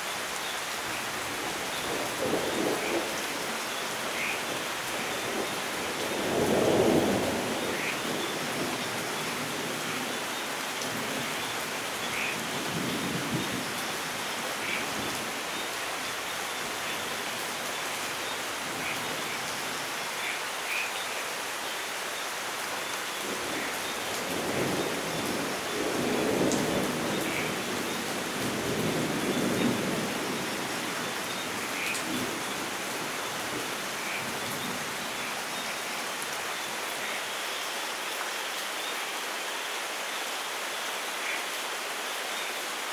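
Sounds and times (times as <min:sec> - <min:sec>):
heavy rainfall: 0:00.0 - 0:42.9.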